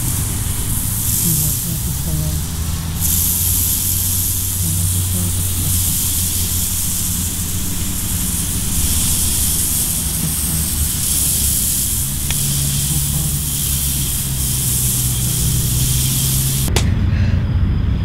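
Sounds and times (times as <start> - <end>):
steady hiss: 0.0 - 16.8
low steady hum: 0.0 - 18.0.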